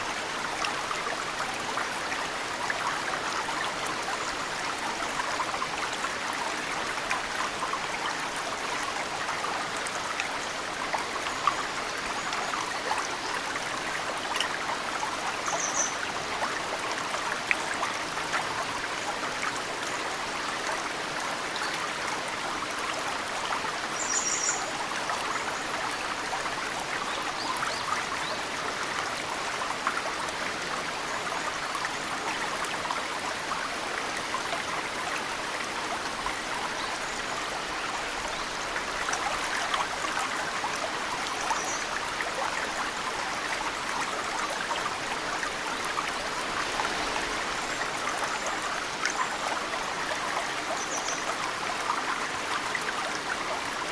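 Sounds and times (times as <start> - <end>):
stream running: 0.0 - 53.9.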